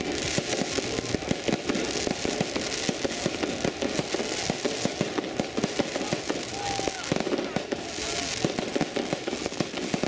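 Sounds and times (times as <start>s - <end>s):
fireworks crackling: 0.0s - 10.0s
fireworks popping and banging: 0.0s - 10.0s.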